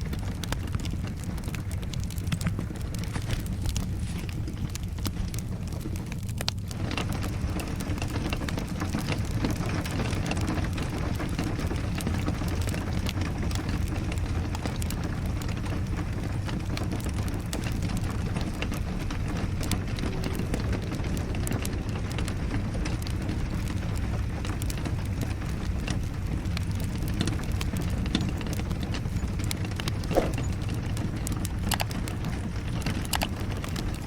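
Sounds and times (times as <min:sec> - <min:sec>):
constant low rumble: 0:00.0 - 0:34.0
rain rushing: 0:00.0 - 0:34.0
wood fire crackling: 0:00.0 - 0:34.0.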